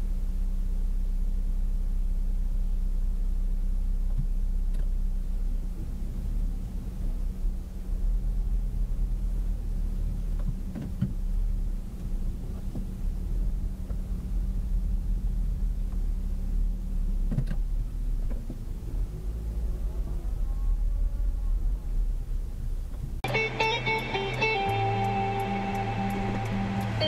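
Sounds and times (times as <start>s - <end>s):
car engine low rumble: 0.0s - 27.0s.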